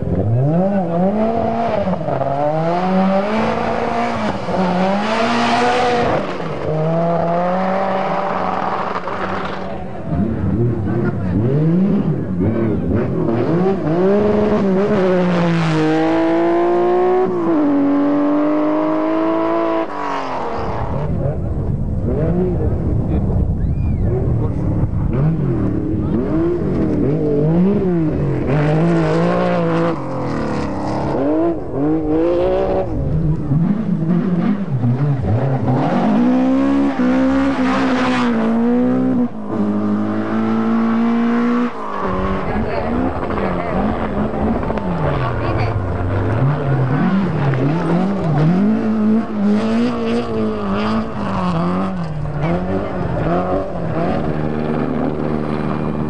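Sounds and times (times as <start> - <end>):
rally car engine at high revs: 0.0 - 23.5, 24.1 - 56.0.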